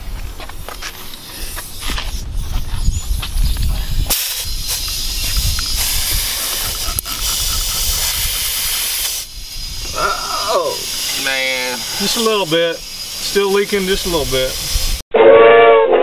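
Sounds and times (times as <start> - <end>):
spray bottle hissing: 0.6 - 15.0.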